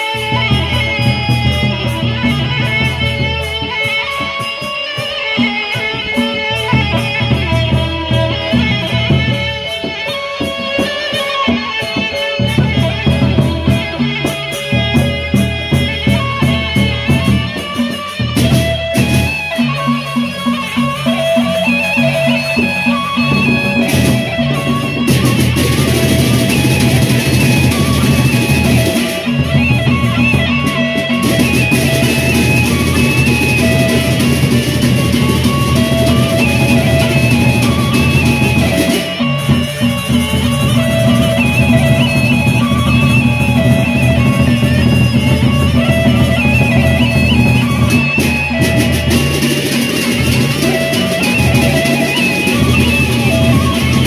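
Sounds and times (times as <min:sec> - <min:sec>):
barrel drums beaten in rhythm: 0:00.0 - 0:54.0
cymbals clashing: 0:00.0 - 0:54.0
gongs: 0:00.0 - 0:54.0
held melody line: 0:00.0 - 0:54.0.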